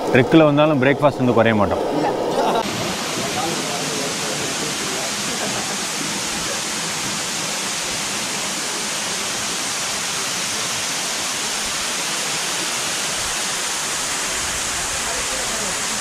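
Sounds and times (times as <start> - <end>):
waterfall rushing and splashing: 1.8 - 16.0.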